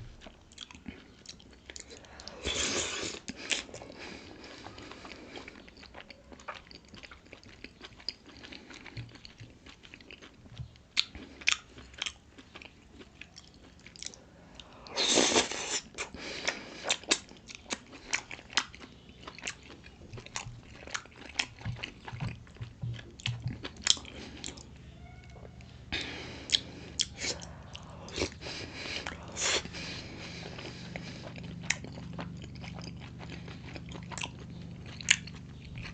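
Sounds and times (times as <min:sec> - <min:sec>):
chewing with wet mouth smacks: 0:00.0 - 0:24.8, 0:26.0 - 0:35.9.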